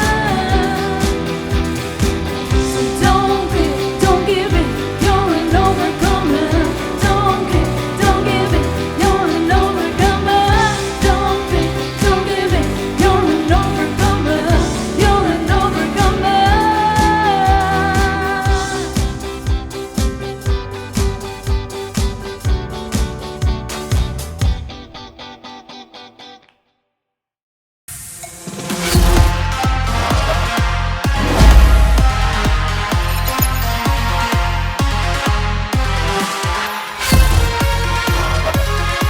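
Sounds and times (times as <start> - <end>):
pop song with singer and band: 0.0 - 24.2, 29.0 - 39.0.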